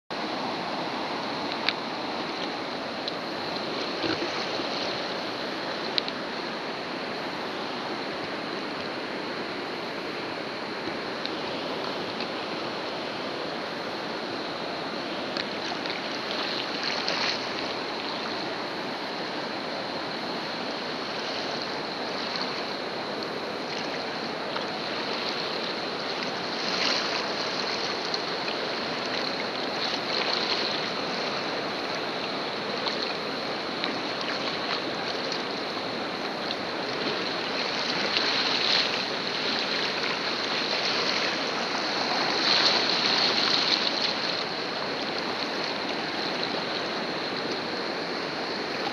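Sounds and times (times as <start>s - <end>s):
whitewater rushing: 0.1s - 48.9s
waves splashing over boat: 0.2s - 48.9s.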